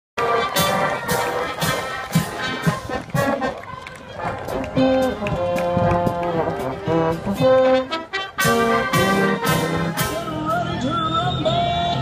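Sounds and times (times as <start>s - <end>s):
marching band playing: 0.2s - 11.7s.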